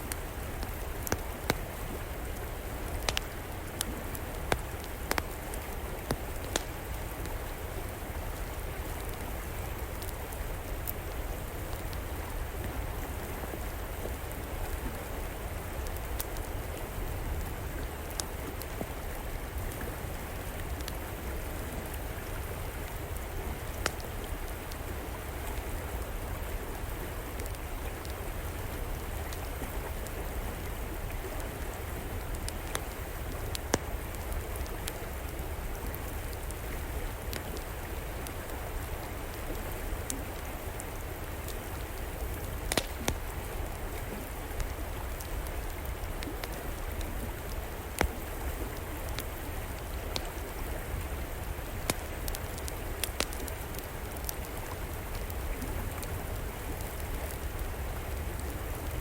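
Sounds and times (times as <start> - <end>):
river water flowing: 0.0 - 59.0
wood fire crackling: 0.0 - 59.0.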